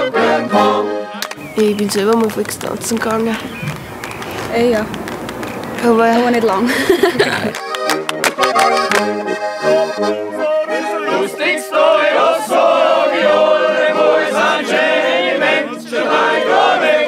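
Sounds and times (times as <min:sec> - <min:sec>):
voices singing along: 0:00.0 - 0:07.5, 0:10.0 - 0:17.0
accordion folk music: 0:00.0 - 0:17.0.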